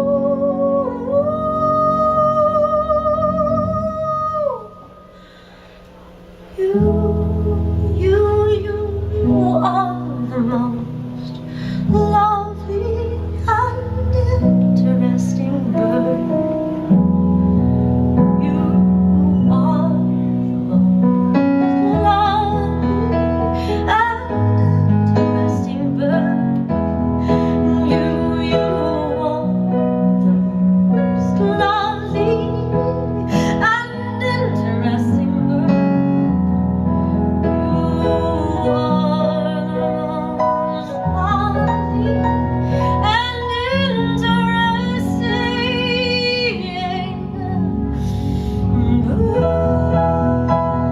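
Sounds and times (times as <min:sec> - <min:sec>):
woman singing: 0:00.0 - 0:05.0, 0:06.5 - 0:16.9, 0:18.2 - 0:36.4, 0:37.4 - 0:50.9
piano keyboard chords: 0:00.0 - 0:50.9.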